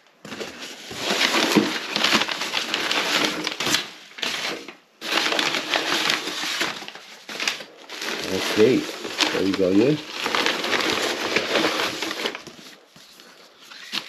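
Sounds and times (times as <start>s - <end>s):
packing paper crackling and rustling: 0.0s - 14.0s.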